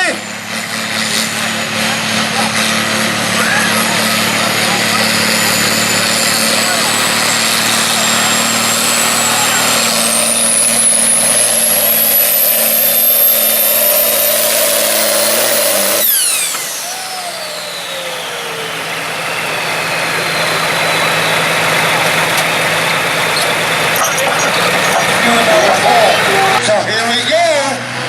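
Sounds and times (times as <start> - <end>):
diesel tractor engine under load: 0.0 - 28.0
turbo whine: 3.3 - 26.6.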